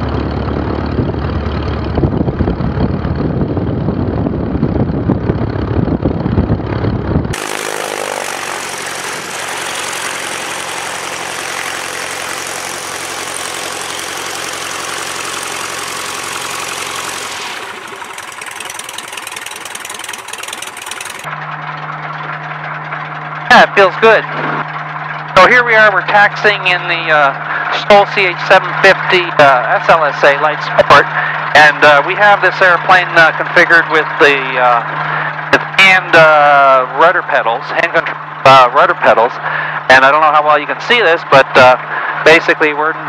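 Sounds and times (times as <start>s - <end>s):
light aircraft engine and propeller: 0.0s - 43.0s.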